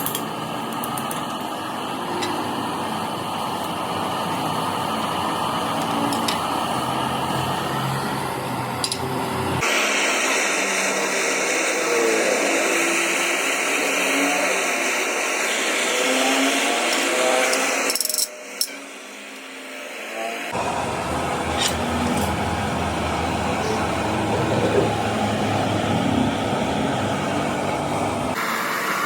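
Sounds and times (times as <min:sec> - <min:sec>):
power tool whirring: 0:00.8 - 0:28.5.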